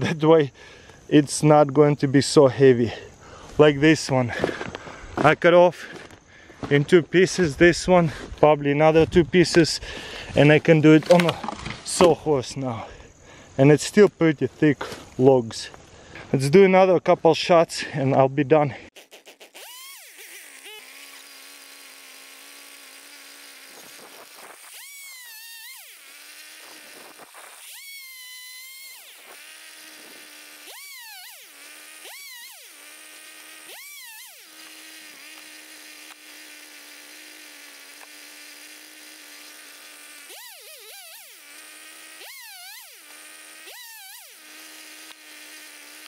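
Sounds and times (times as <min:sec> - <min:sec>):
chainsaw idling and revving: 0:03.7 - 0:13.7, 0:19.0 - 0:46.0.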